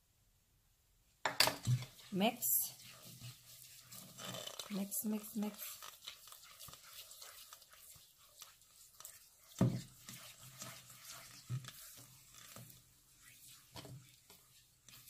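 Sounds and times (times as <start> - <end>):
spatula scraping metal bowl: 1.5 - 15.0.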